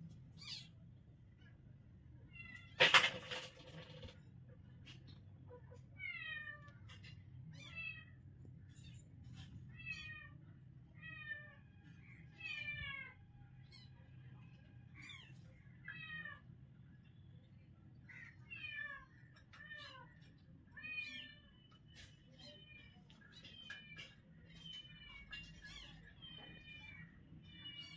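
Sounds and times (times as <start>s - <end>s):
faint low hum: 0.0s - 27.9s.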